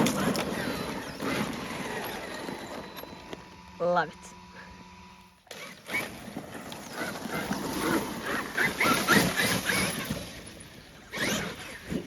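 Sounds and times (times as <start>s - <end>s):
rc truck driving over rough ground: 0.0s - 12.0s.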